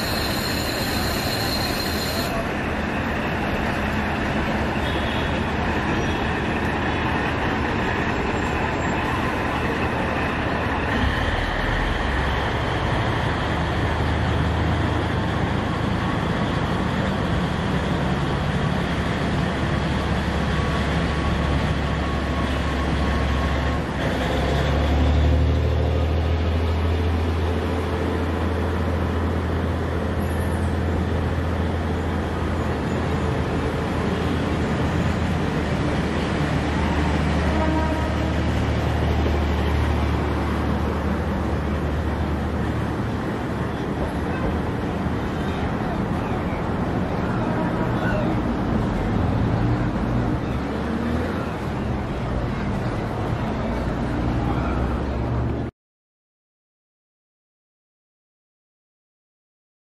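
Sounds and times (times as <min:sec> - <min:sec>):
train rumbling along tracks: 0:00.0 - 0:55.7.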